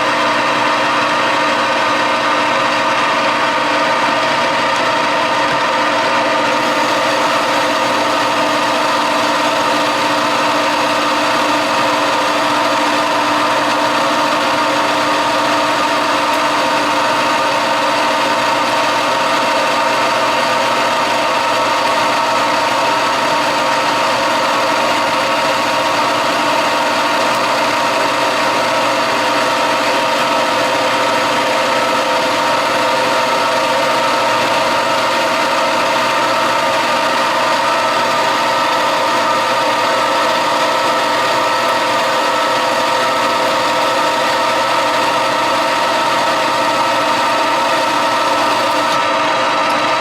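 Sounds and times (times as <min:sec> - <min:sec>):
metal lathe motor humming: 0:00.0 - 0:50.0.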